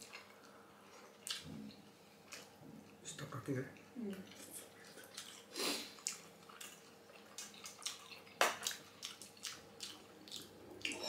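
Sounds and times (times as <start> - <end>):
wet chewing: 0.0 - 3.0, 4.1 - 11.0.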